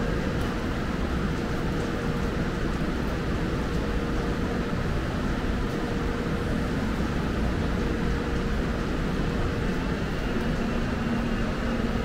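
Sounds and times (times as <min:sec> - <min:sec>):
subway platform rumble and hiss: 0:00.0 - 0:12.0.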